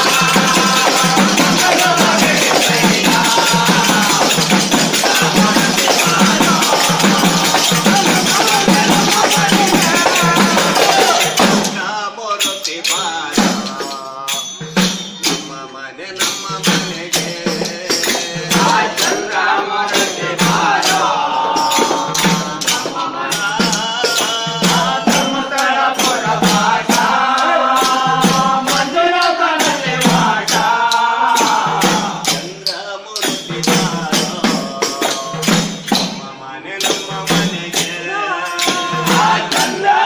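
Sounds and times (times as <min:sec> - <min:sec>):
hand drums: 0:00.0 - 0:15.6, 0:16.2 - 0:40.0
jingling hand percussion: 0:00.0 - 0:40.0
voices singing together: 0:00.0 - 0:40.0.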